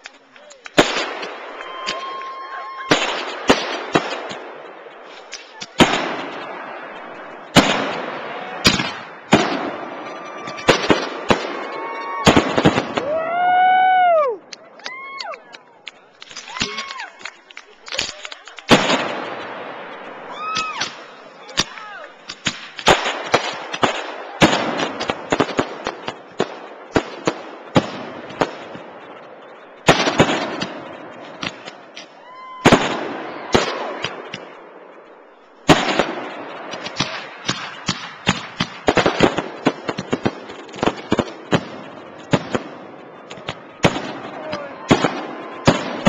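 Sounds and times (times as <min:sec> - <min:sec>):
fireworks bursting with bangs: 0:00.0 - 0:15.3, 0:15.9 - 0:46.0
fireworks crackling: 0:00.0 - 0:46.0.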